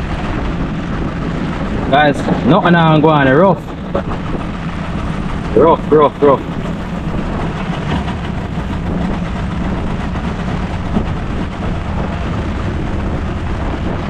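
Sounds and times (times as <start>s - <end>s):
boat low rumble: 0.0s - 14.0s.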